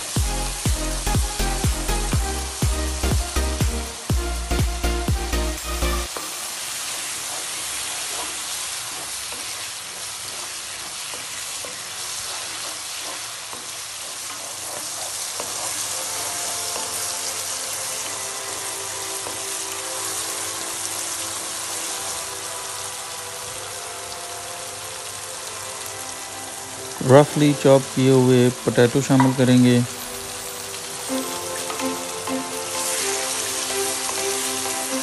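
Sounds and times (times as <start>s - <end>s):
masala sizzling in oil: 0.0s - 35.0s.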